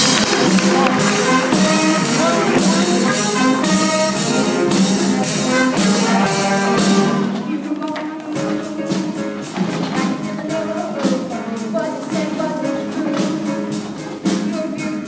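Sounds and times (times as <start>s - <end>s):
live band with brass and drums: 0.0s - 7.6s, 8.3s - 15.0s.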